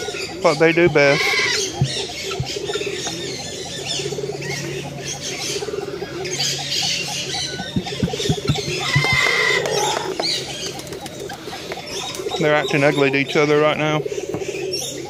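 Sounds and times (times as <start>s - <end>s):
birds chirping and calling: 0.0s - 15.0s
low pulsed calls: 0.0s - 15.0s
steady low hum: 0.0s - 15.0s.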